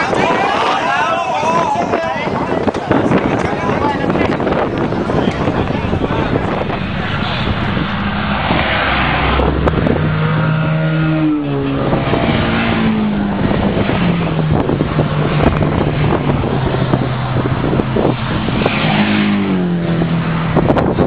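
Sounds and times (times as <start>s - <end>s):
wind buffeting microphone: 0.0s - 21.0s
racing car engines accelerating: 3.9s - 21.0s.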